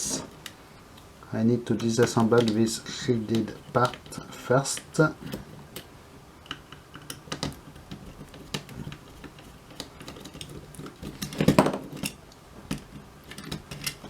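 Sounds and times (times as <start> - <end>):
tools clicking on phone parts: 1.7 - 14.0.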